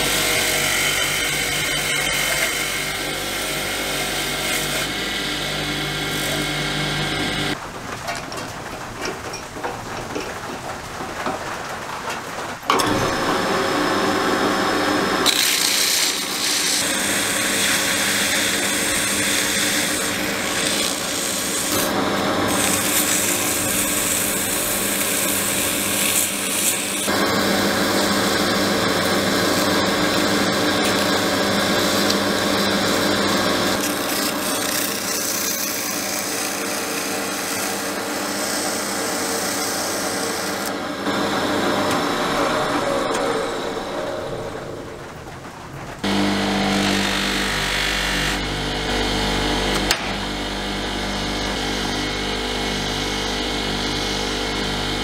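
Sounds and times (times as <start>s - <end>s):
drill press motor running: 0.0s - 7.6s, 12.8s - 44.8s, 46.0s - 55.0s.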